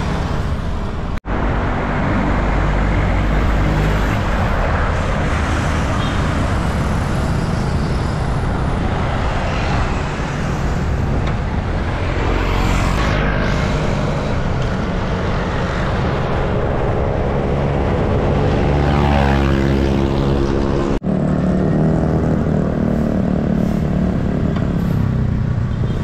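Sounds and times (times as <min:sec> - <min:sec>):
road traffic rush: 0:00.0 - 0:26.0.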